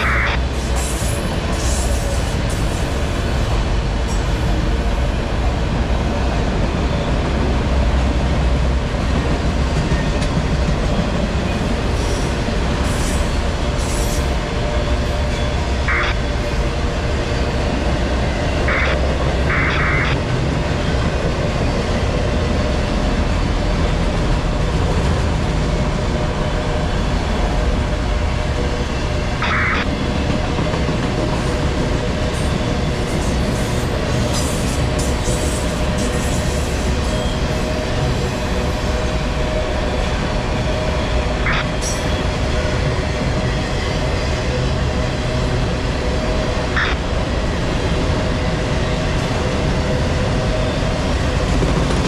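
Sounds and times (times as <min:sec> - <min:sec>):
freight cars rumbling on rails: 0:00.0 - 0:52.0.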